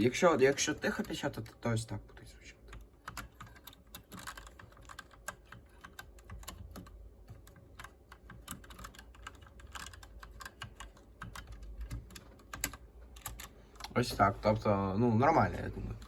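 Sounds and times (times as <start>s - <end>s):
mechanical keyboard typing: 0.0s - 14.2s.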